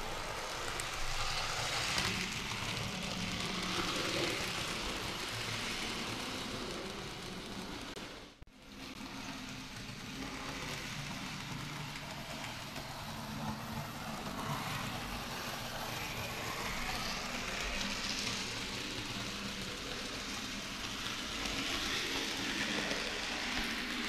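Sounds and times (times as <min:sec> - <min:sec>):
model train wheels rattling on rails: 0:00.0 - 0:24.0.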